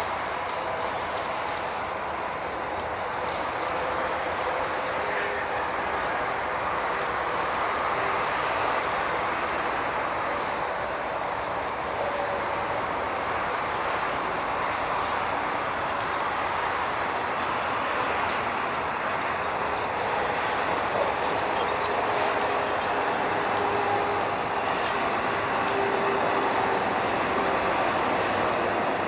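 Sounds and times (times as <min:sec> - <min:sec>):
distant train rumble: 0:00.0 - 0:29.0.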